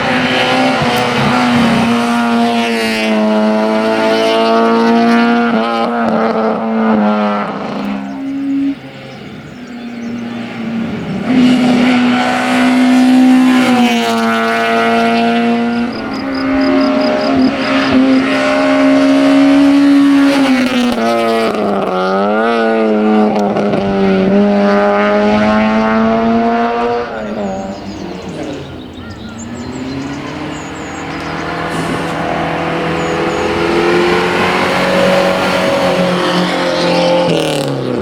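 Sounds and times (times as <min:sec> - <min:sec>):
car engine revving high: 0:00.0 - 0:38.0.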